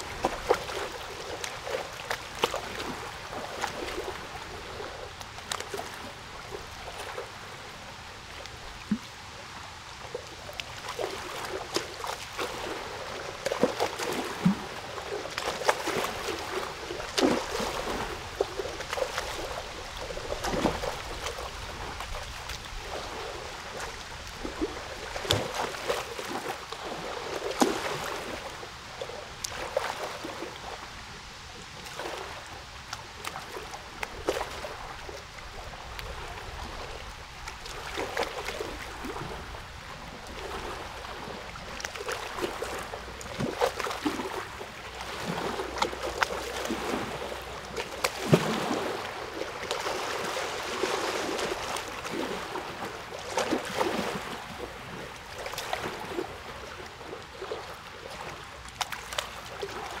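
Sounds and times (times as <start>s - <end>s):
water gurgling and splashing: 0.0s - 60.0s.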